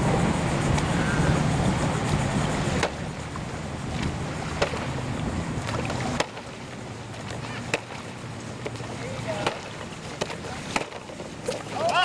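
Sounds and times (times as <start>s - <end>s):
steady low hum: 0.0s - 11.9s
paddles in calm water: 0.0s - 12.0s.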